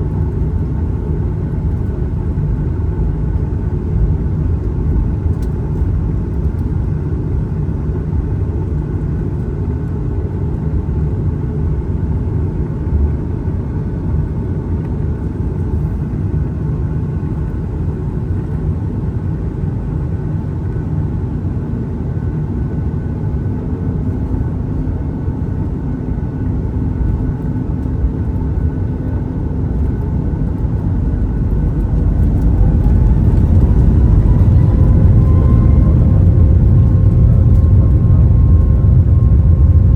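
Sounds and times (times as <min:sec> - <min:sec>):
airliner cabin rumble: 0:00.0 - 0:39.9
jet engine whine: 0:00.0 - 0:39.9.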